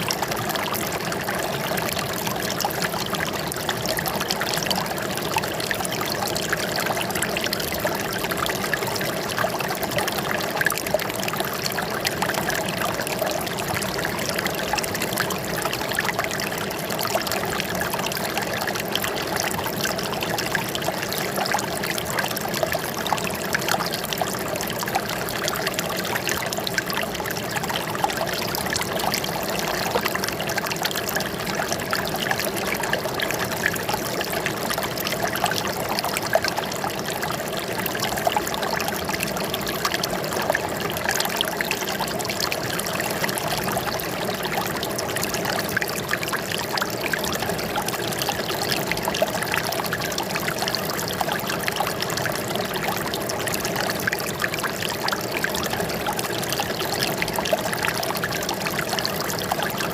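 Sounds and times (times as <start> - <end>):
running water trickling and splashing: 0.0 - 59.9.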